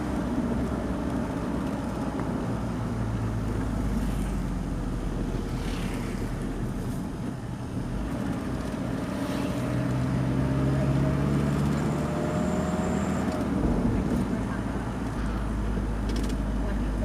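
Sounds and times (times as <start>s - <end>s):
road and wind noise: 0.0s - 17.0s
vehicle engine hum: 0.0s - 17.0s.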